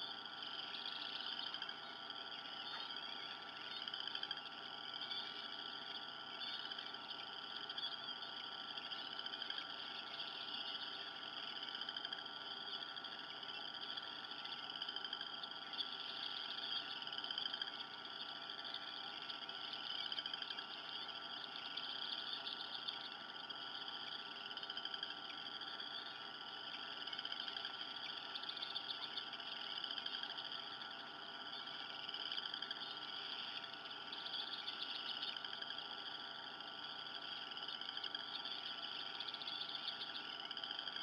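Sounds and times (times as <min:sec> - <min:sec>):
frogs trilling: 0:00.0 - 0:41.0.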